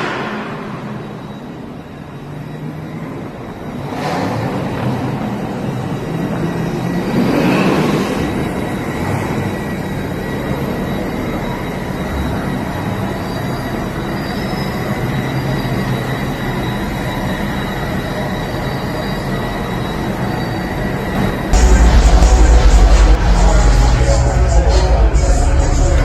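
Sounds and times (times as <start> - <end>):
road rumble: 0.0 - 26.0
vehicle engine drone: 0.0 - 26.0.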